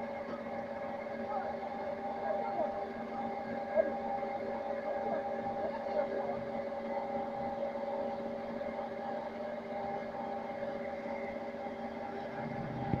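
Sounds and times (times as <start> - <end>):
vibrating screen machinery hum: 0.0 - 13.0.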